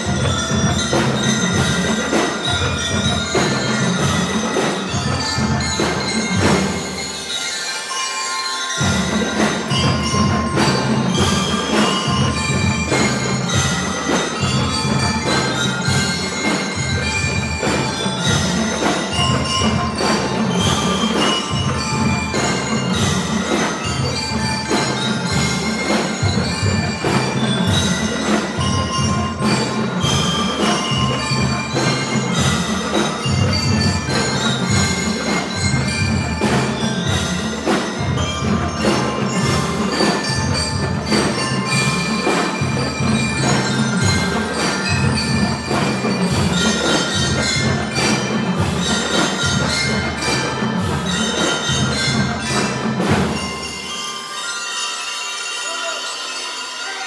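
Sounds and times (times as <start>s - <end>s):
bell lyres ringing melody: 0.0s - 57.0s
drums beating steady rhythm: 0.0s - 57.0s.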